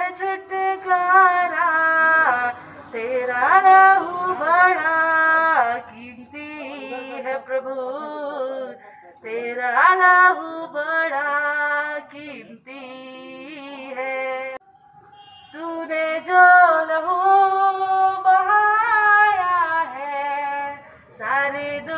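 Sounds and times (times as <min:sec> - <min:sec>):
woman singing a hymn: 0:00.0 - 0:14.6, 0:15.5 - 0:21.9.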